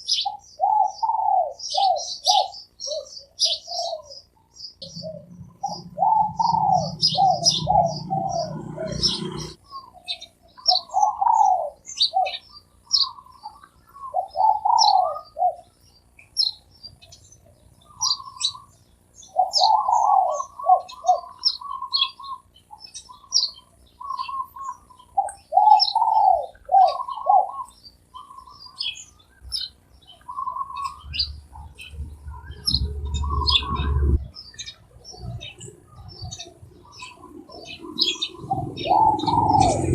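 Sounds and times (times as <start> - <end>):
doves cooing: 0.0 - 15.8, 17.4 - 39.9
small birds chirping: 0.0 - 39.9.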